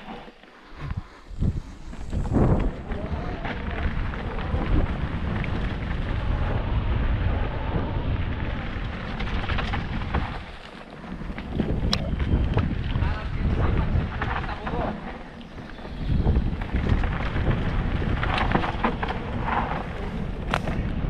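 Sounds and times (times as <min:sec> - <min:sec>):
bike rattling over bumps: 0:00.0 - 0:21.0
bike tyres rumbling on dirt: 0:00.0 - 0:21.0
wind buffeting microphone: 0:00.0 - 0:21.0.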